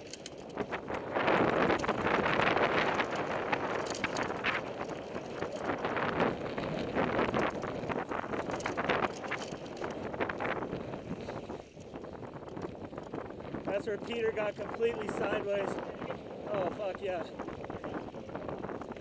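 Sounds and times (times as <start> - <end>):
tyres on loose dirt: 0.0 - 16.8
bike rattling and knocking: 0.0 - 19.0
wind over microphone: 0.0 - 19.0.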